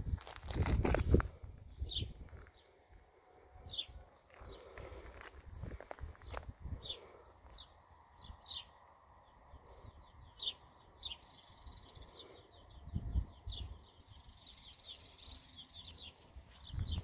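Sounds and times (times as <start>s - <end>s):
small birds chirping: 1.3s - 2.9s, 3.6s - 17.0s.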